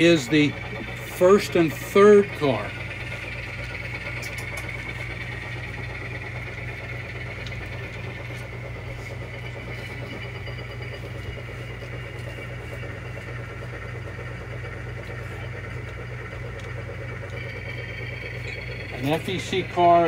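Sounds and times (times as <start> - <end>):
diesel engine sound from small speaker: 0.0 - 20.0.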